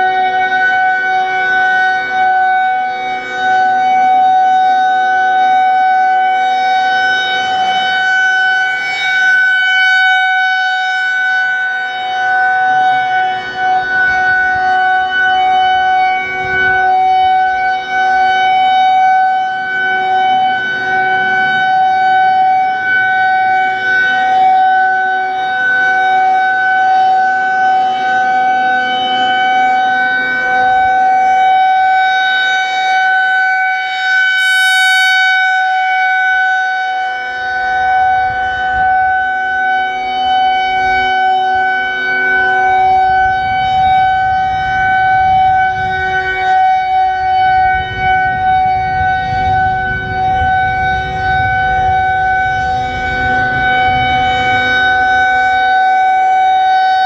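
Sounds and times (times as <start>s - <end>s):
rotating warning siren: 0.0s - 57.0s.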